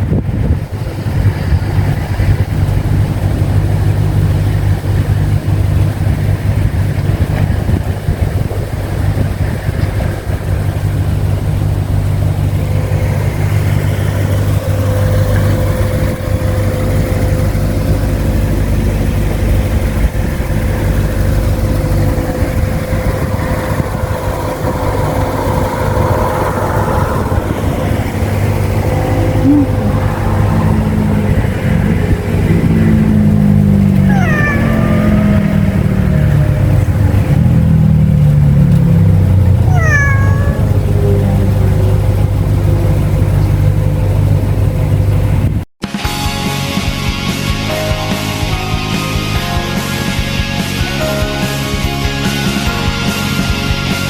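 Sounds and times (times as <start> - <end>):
car engine idling: 0.0 - 45.6.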